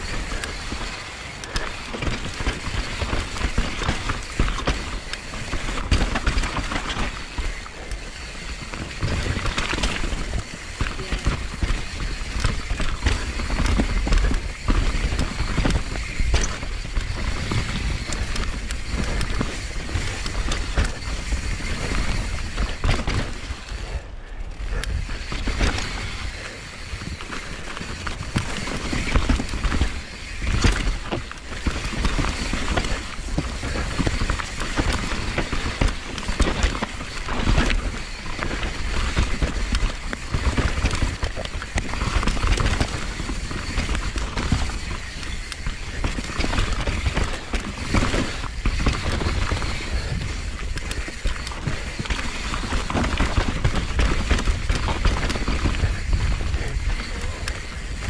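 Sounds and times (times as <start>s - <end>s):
bike clattering and rattling: 0.0s - 58.0s
bike tyres rolling over dirt: 0.0s - 58.0s.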